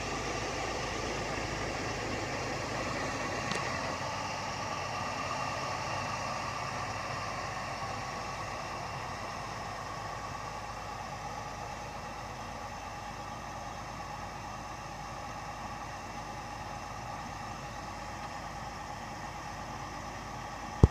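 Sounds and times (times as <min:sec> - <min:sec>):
pickup engine idling: 0:00.0 - 0:20.9.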